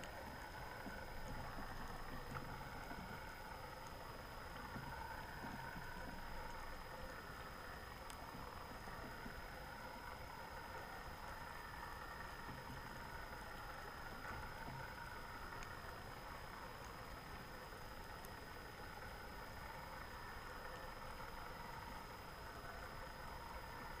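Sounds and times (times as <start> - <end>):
faint clicks: 0.0 - 24.0
muffled underwater noise: 0.1 - 24.0.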